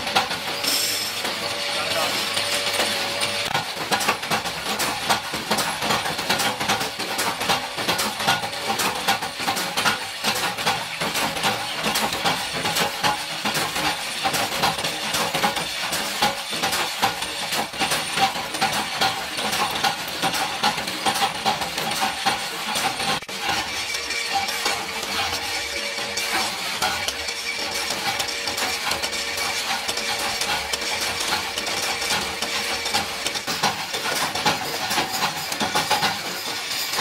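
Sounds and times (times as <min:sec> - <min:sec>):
machine clattering metallically: 0:00.0 - 0:37.0.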